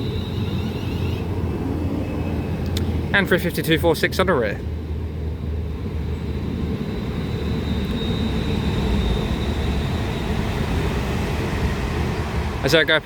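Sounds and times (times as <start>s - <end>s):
faint high whine: 0.0s - 13.0s
train low rumble: 0.0s - 13.0s.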